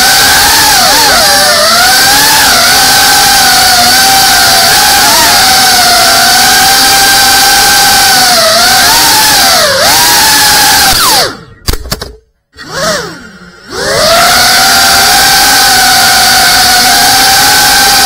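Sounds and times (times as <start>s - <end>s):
drone motors whining: 0.0s - 11.8s, 12.5s - 18.0s.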